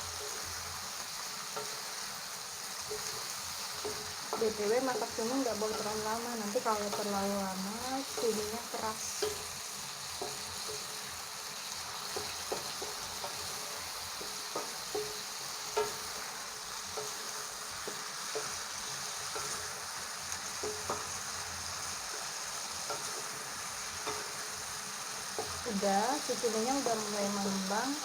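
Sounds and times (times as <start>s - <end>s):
food sizzling in hot oil: 0.0s - 28.0s
utensil clacking against pan: 2.8s - 28.0s.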